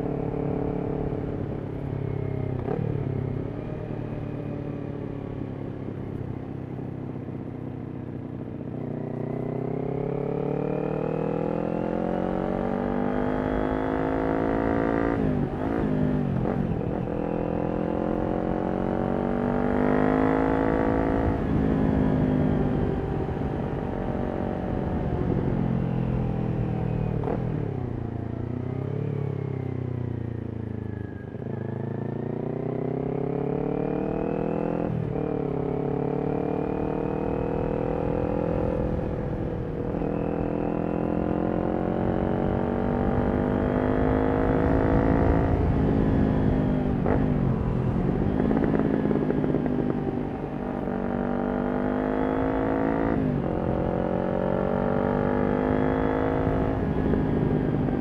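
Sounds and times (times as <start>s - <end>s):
motorcycle engine revving through gears: 0.0s - 3.9s, 7.1s - 58.0s.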